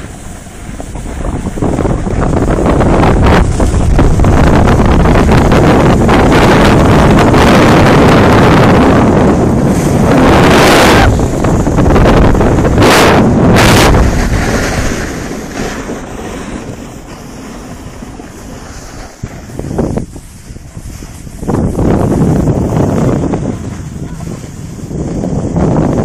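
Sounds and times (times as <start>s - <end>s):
skis scraping on snow: 0.0s - 26.0s
wind buffeting microphone: 0.0s - 26.0s.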